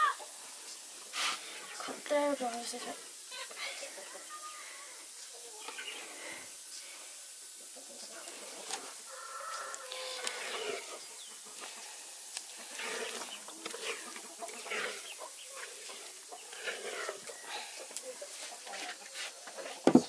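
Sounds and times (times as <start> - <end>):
chickens clucking: 0.0 - 20.0
steady high hiss: 0.0 - 20.0.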